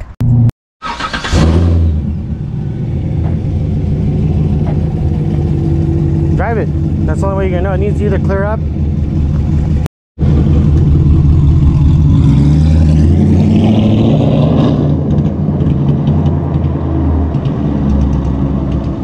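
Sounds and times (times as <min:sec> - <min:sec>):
car engine revving: 0:00.2 - 0:19.0.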